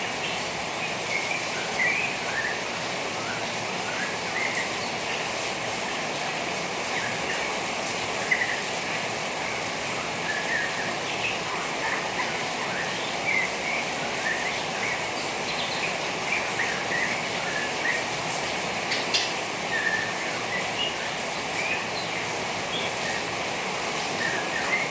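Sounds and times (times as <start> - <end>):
rain hissing: 0.0 - 24.9.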